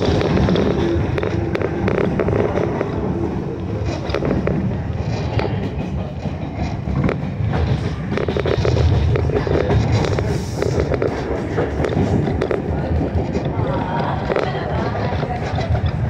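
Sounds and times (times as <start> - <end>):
train rumble: 0.0 - 16.0
wheels clacking on rails: 0.0 - 16.0.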